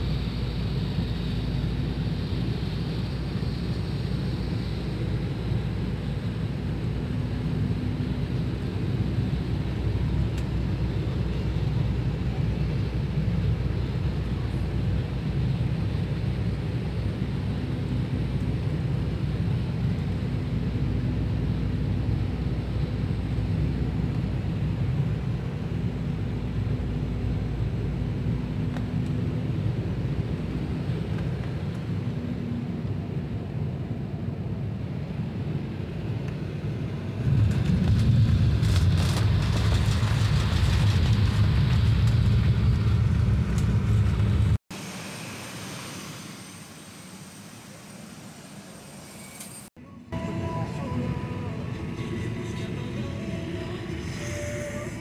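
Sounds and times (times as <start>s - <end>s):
airliner engine rumble: 0.0s - 55.0s.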